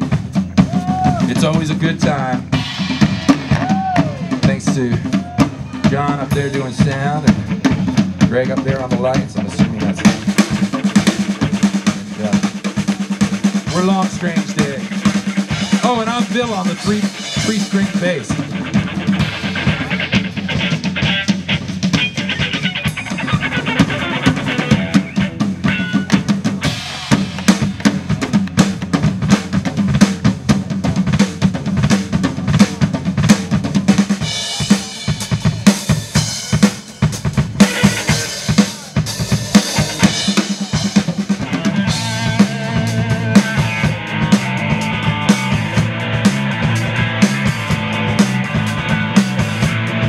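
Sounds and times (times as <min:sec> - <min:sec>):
bass guitar: 0:00.0 - 0:50.0
drum kit beating: 0:00.0 - 0:50.0
electric guitars: 0:00.0 - 0:50.0.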